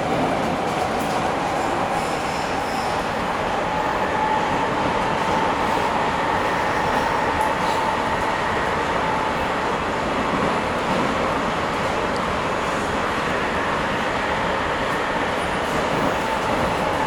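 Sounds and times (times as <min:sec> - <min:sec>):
faint train whine: 0:00.0 - 0:17.0.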